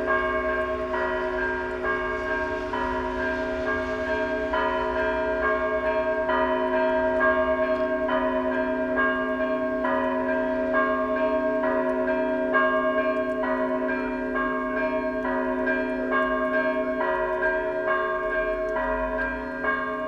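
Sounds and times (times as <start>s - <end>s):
hum of large bells: 0.0s - 20.0s.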